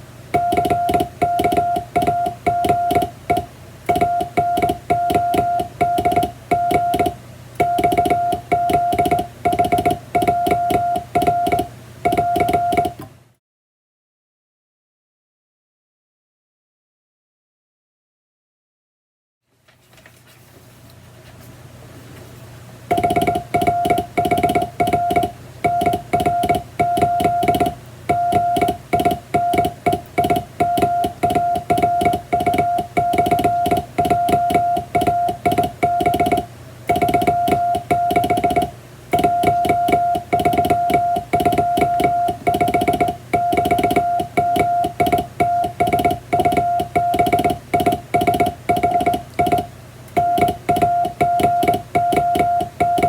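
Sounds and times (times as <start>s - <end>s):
morse code tone: 0.4s - 13.0s, 22.9s - 53.0s
telegraph key clicks: 0.4s - 13.1s, 22.9s - 53.0s.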